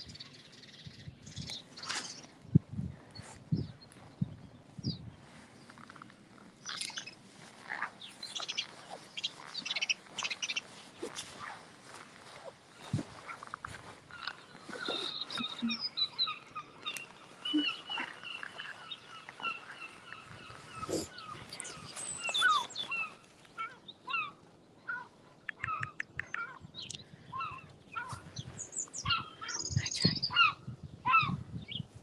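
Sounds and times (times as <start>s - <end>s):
wild birds singing and chirping: 0.0s - 32.0s.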